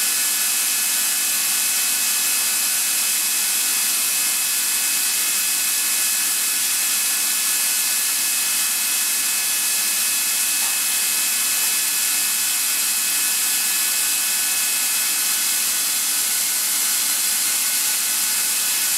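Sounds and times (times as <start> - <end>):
air compressor running: 0.0 - 18.9.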